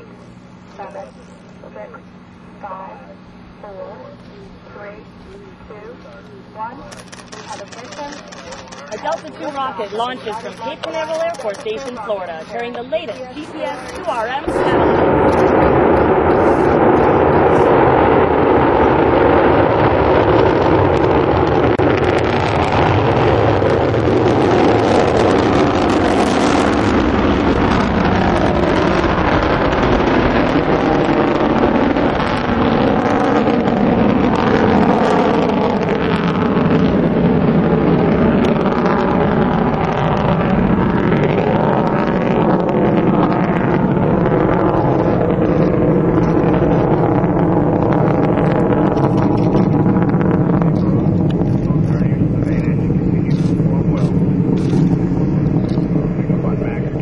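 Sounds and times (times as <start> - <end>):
rocket engines roaring: 0.0 - 57.0.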